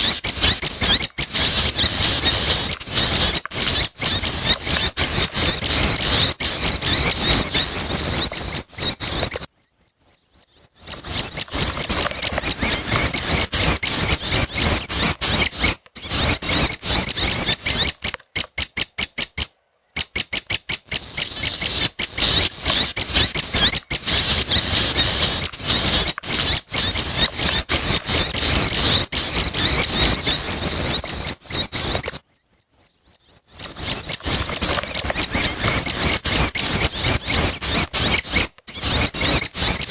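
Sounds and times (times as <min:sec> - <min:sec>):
bird chicks squeaky chatter: 0:00.0 - 0:39.9.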